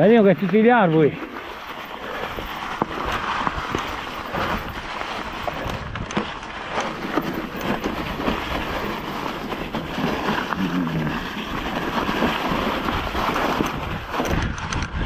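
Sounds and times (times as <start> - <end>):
bike rattling: 0.0 - 15.0
bike tyres crunching on leaves: 0.0 - 15.0
wind noise on microphone: 1.5 - 15.0.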